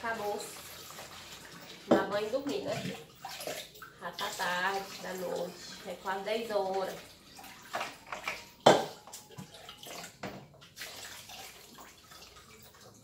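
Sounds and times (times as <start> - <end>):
water sloshing in a plastic bucket: 0.0 - 13.0.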